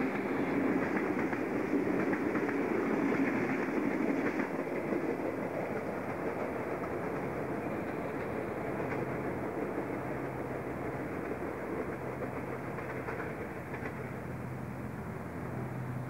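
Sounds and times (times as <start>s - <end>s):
electric train rumble and hum: 0.0s - 16.0s.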